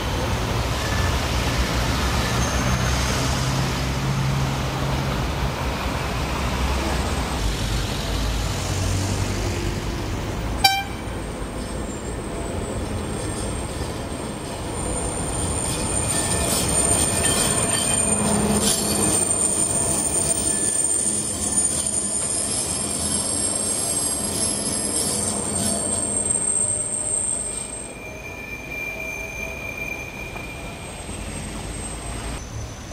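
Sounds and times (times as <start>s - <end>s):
tram wheels squealing: 0.0s - 5.1s, 6.0s - 32.9s
tram cars rumbling: 0.0s - 32.9s.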